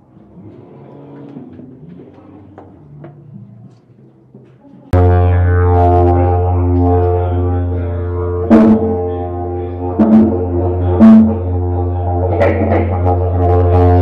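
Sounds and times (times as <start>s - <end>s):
didgeridoo drone: 0.0s - 3.7s, 4.9s - 14.0s.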